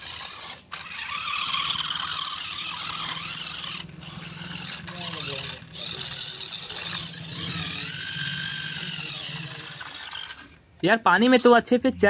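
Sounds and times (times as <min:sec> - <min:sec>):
electric motor whirring: 0:00.0 - 0:11.8.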